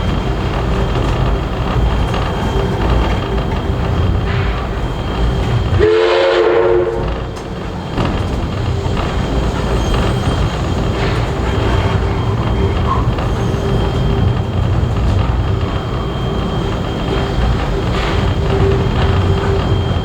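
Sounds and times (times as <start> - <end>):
rail joint clicks: 0.0 - 20.0
thin steady whine: 0.0 - 20.0
train wheels rumbling: 0.0 - 20.0.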